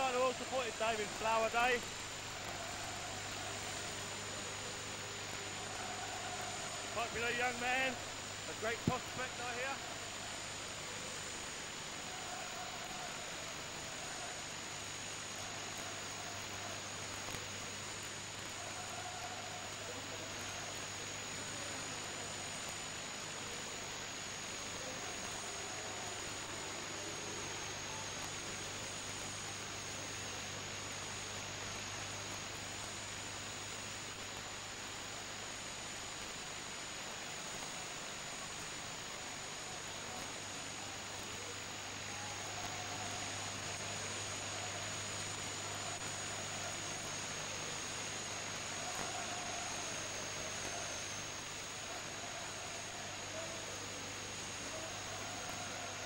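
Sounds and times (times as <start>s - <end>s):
thin high whine: 0.0s - 56.0s
videotape hiss: 0.0s - 56.0s.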